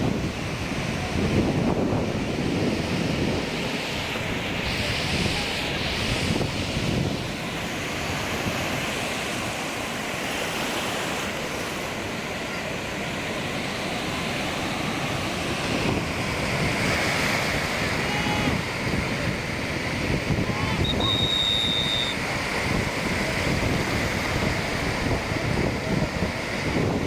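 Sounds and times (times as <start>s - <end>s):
wind buffeting microphone: 0.0s - 10.4s, 11.3s - 27.0s
surf washing onto beach: 0.0s - 27.0s.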